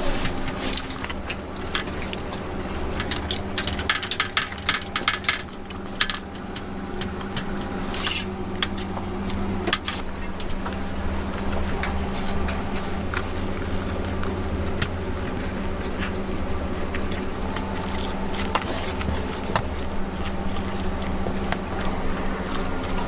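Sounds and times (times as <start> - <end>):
steady low hum: 0.0 - 23.0
utensils clicking and clattering: 0.0 - 23.0.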